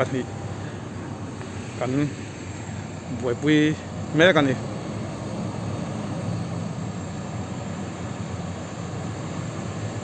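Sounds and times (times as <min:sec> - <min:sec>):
backhoe diesel engine droning: 0:00.0 - 0:10.0.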